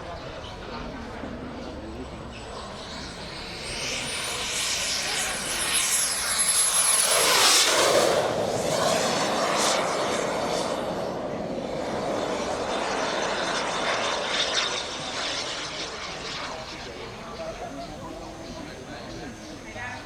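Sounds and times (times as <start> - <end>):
model jet flying past: 0.0 - 20.0.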